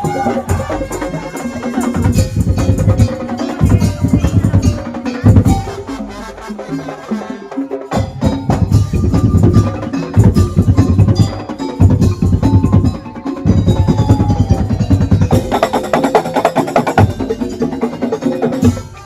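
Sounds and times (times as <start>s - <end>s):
bell-like tones: 0.0s - 19.0s
drums and wooden knocking: 0.0s - 19.0s.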